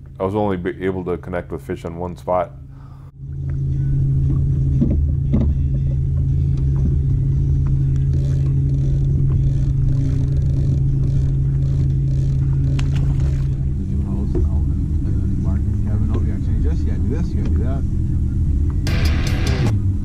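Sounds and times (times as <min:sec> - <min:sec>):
boat motor humming: 0:02.6 - 0:20.0.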